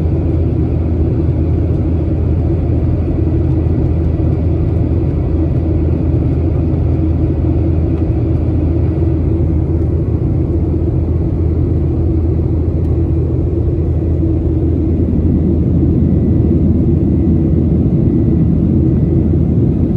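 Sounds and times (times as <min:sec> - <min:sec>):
faint steady whine: 0:00.0 - 0:19.9
jet engine rumble: 0:00.0 - 0:19.9.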